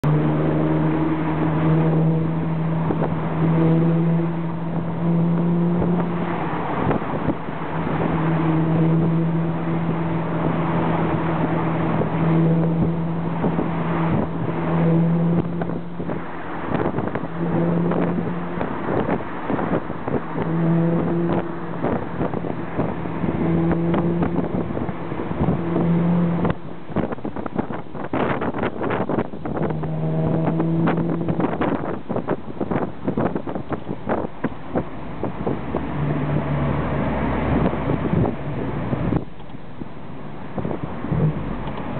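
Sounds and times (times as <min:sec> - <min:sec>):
car engine running: 0:00.0 - 0:41.9
wind noise on microphone: 0:00.0 - 0:41.9.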